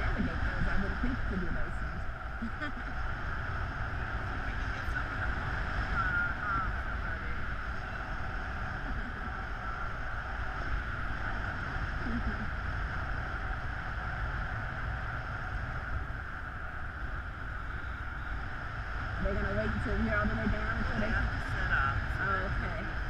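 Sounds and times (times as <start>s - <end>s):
low rumble: 0.0s - 23.0s
wind buffeting microphone: 0.0s - 23.0s.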